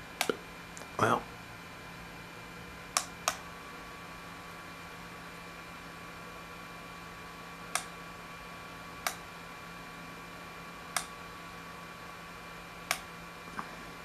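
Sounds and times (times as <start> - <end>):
turntable motor hum and whine: 0.0 - 14.0.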